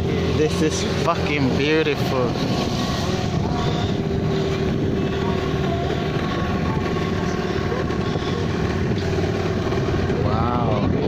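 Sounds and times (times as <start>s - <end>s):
motorboat engine running: 0.0s - 11.0s
water noise: 0.0s - 11.0s
wind noise: 0.0s - 11.0s.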